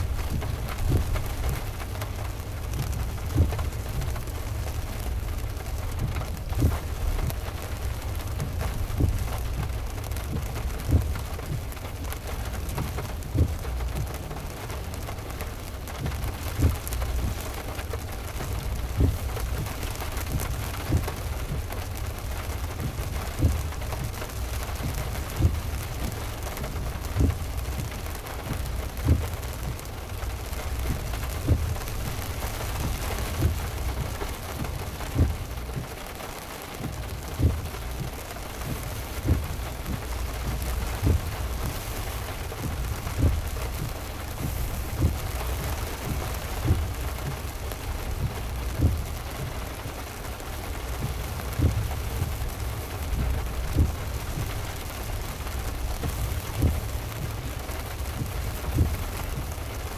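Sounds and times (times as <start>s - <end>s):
heavy rain on a car: 0.0s - 59.9s
low road rumble: 0.0s - 59.9s
windshield wipers thumping: 0.0s - 59.9s.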